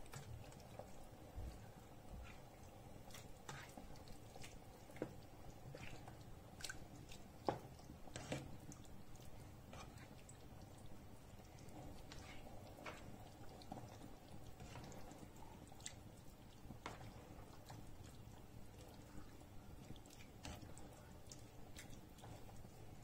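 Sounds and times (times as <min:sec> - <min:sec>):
wet squelching of food in pan: 0:00.0 - 0:23.0.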